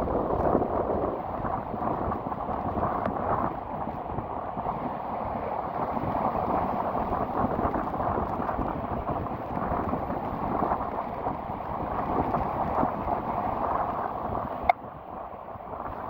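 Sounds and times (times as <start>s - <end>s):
rain: 0.0s - 16.0s
rough sea surf: 0.0s - 16.0s
wind buffeting microphone: 0.0s - 16.0s.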